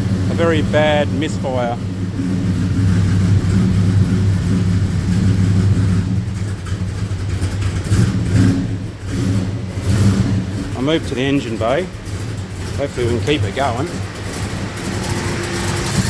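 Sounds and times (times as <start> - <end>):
engine idling roughly with misfire: 0.0 - 16.0.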